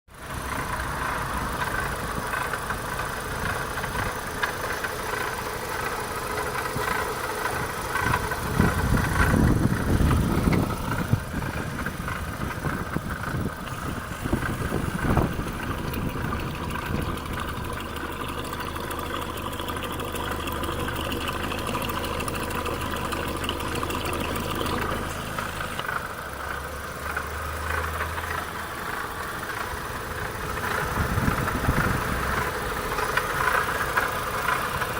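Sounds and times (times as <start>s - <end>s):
car engine rattling: 0.1s - 34.9s.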